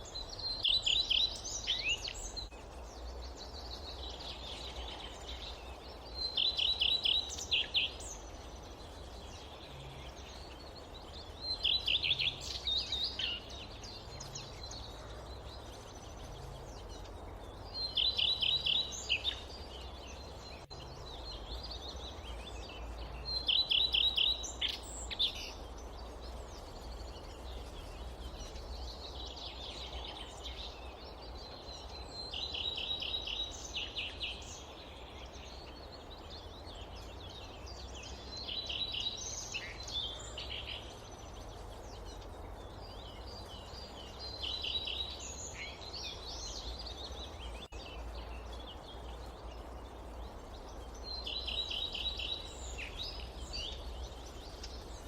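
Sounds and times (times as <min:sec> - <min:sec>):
low rumble of wind: 0:00.0 - 0:55.0.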